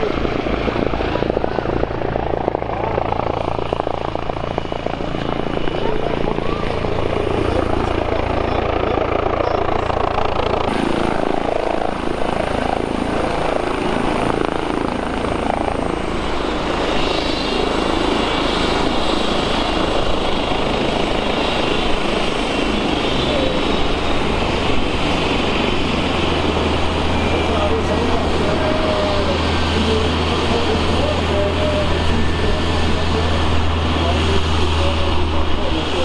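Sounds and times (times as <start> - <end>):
helicopter rotor and engine: 0.0 - 36.0
high whine: 0.0 - 36.0.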